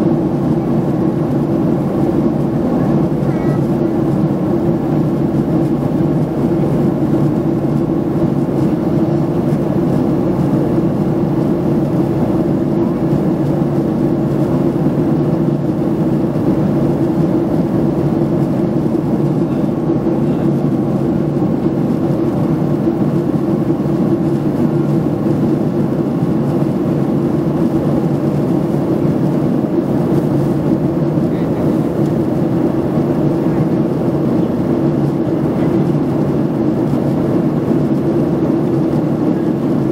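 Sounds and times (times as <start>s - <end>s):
jet airliner cabin drone: 0.0s - 39.9s.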